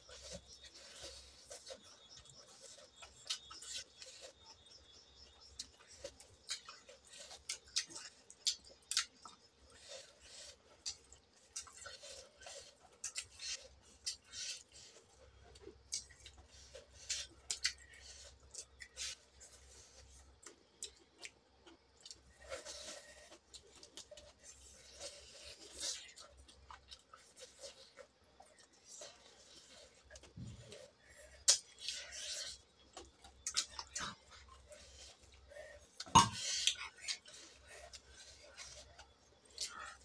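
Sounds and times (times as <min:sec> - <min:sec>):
chewing food: 0:00.0 - 0:40.0.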